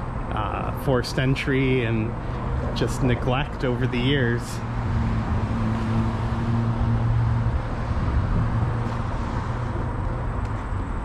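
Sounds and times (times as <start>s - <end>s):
low engine hum: 0.0s - 11.0s
vehicles rushing past: 0.0s - 11.0s.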